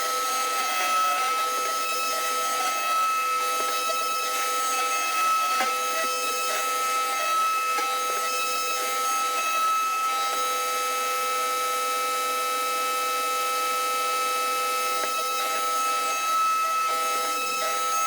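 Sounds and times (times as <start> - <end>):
wood router whining: 0.0 - 18.0.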